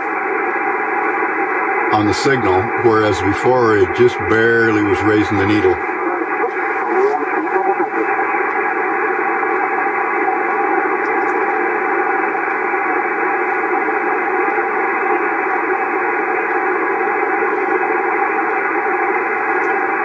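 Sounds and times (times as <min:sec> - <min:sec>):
faint steady tones: 0:00.0 - 0:20.0
radio static hiss: 0:00.0 - 0:20.0.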